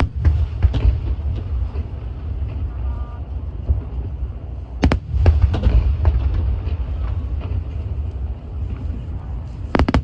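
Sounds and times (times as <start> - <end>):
fireworks cracking and popping: 0.0 - 10.0
steady low rumble: 0.0 - 10.0.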